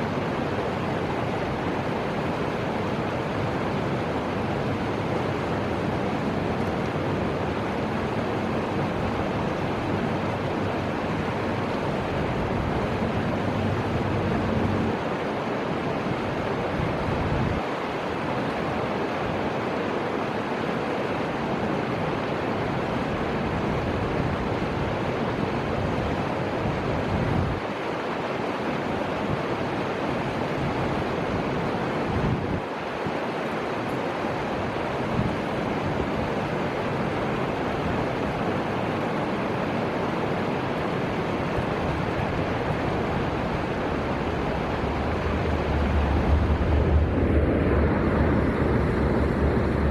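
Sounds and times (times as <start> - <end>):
river water rushing: 0.0 - 49.9
wind rumble on microphone: 0.0 - 49.9.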